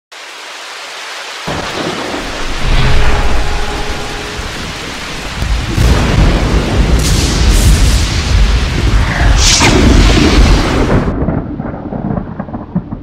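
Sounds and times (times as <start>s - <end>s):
rain hissing: 0.1s - 11.3s
thunder rumble: 1.5s - 13.0s.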